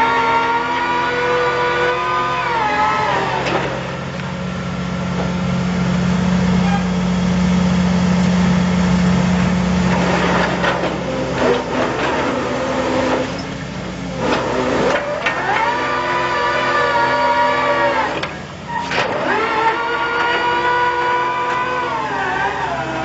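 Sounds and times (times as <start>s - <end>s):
rig engine running: 0.0s - 23.0s.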